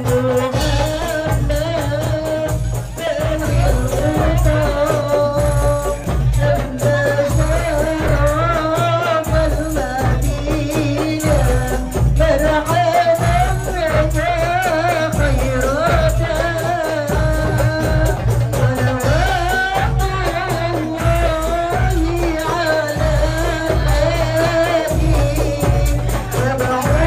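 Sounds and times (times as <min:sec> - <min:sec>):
drum beat: 0:00.0 - 0:27.0
jingling tambourine: 0:00.0 - 0:27.0
person singing: 0:00.0 - 0:27.0.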